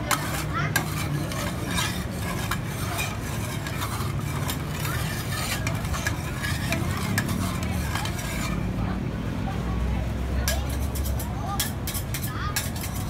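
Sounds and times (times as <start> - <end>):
metal spatulas scraping steel pan: 0.0 - 8.9, 10.4 - 13.0.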